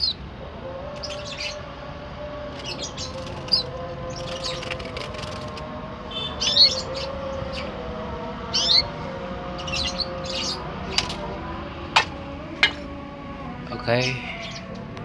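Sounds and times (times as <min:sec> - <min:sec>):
canary chirping: 0:00.0 - 0:14.8.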